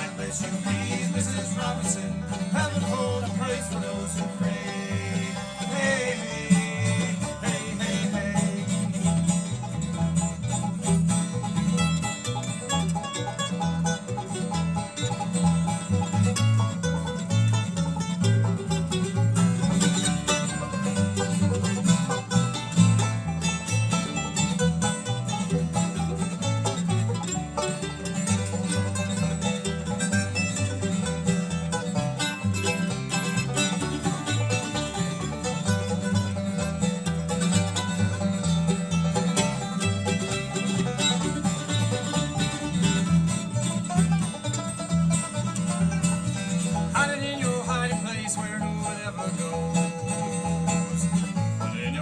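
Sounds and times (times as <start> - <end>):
plucked strings: 0.0 - 52.0
pulsing bass line: 0.0 - 52.0.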